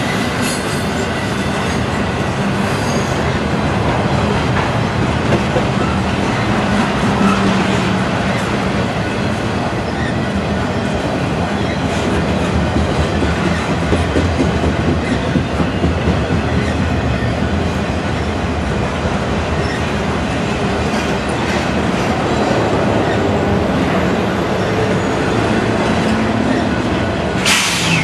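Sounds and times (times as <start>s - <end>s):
diesel locomotive drone: 0.0s - 28.0s
freight train wheels on rail: 0.0s - 28.0s.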